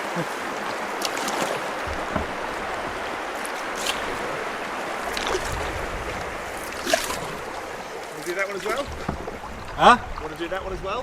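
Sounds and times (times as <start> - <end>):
river rapids rushing: 0.0 - 10.4.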